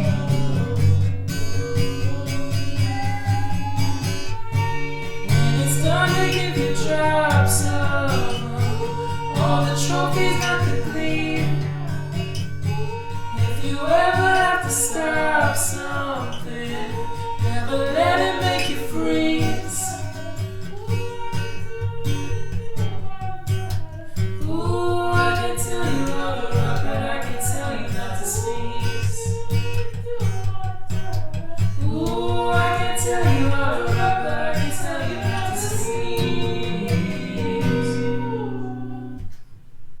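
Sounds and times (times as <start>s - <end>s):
person singing: 0.0s - 39.4s
plucked guitar: 0.0s - 39.6s.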